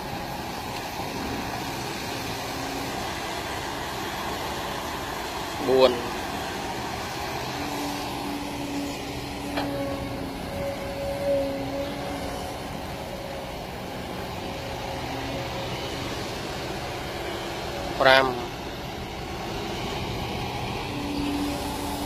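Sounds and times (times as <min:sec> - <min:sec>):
excavator diesel engine: 0:00.0 - 0:22.0.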